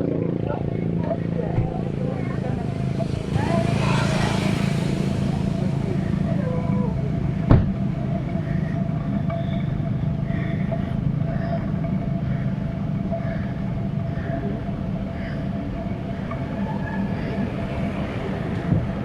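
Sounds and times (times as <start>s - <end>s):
motor vehicle engine rumble: 0.0s - 19.0s.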